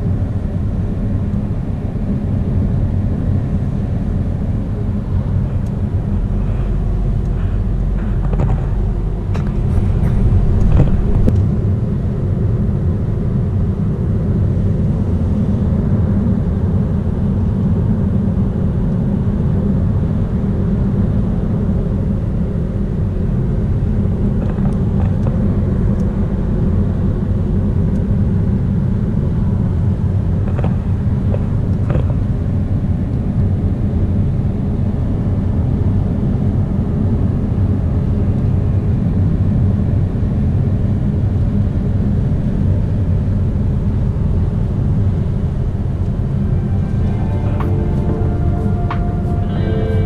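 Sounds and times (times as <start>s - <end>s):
car road and engine rumble: 0.0s - 50.0s.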